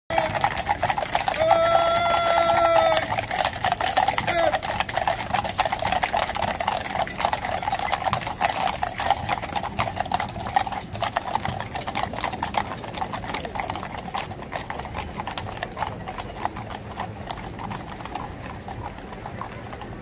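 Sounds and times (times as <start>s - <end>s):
hooves clip-clopping on tarmac: 0.1s - 20.0s.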